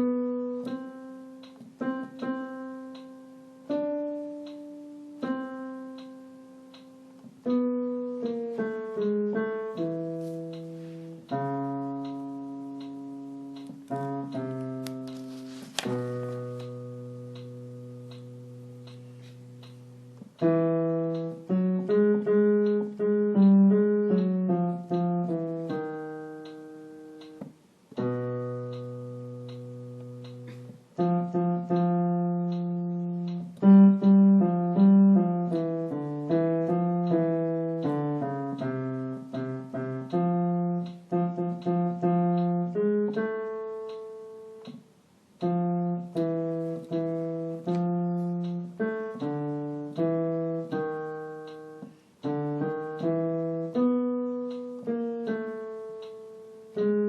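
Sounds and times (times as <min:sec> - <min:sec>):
piano playing low notes: 0:00.0 - 0:57.0.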